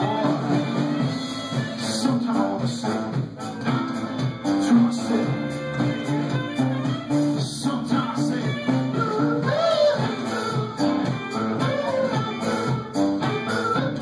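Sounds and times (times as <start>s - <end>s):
electric guitar: 0.0s - 14.0s
live rock band playing: 0.0s - 14.0s
rhythmic bass line: 0.0s - 14.0s.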